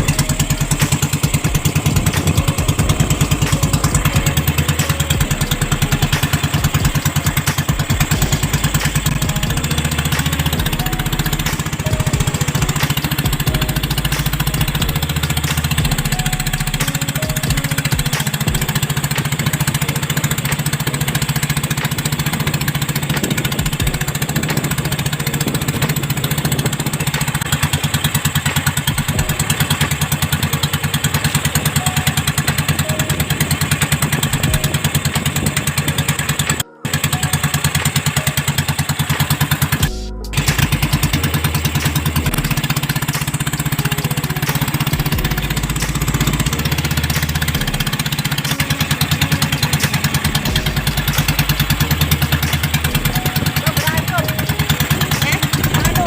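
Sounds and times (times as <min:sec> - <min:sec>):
small boat engine pulsing: 0:00.0 - 0:56.0.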